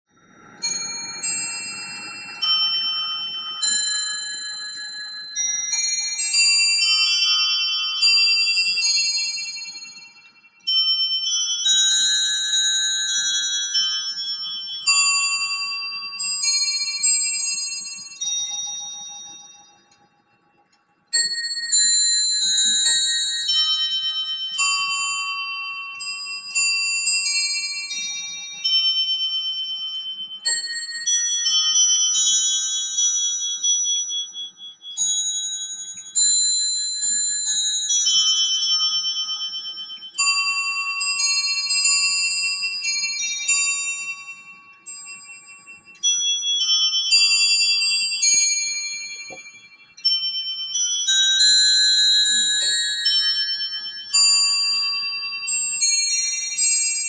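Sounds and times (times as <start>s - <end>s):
clock bells playing a march: 0.3s - 20.0s, 21.1s - 57.0s.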